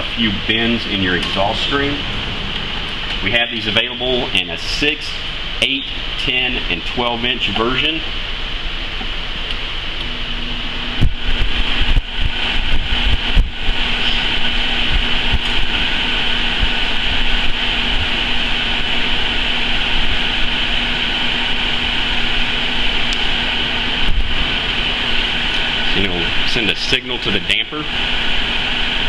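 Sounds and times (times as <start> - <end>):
exhaust hood fan rushing air: 0.0 - 29.0.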